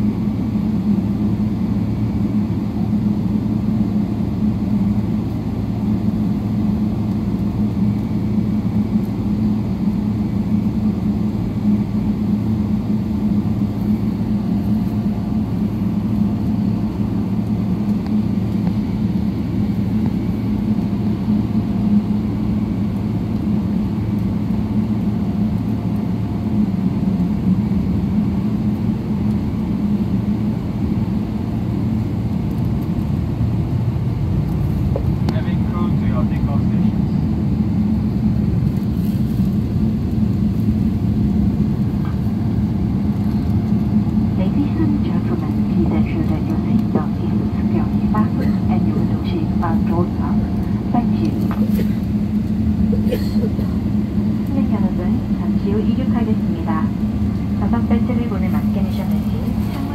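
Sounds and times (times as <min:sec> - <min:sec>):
cabin air system hum: 0:00.0 - 0:59.9
jet engines droning: 0:00.0 - 0:59.9.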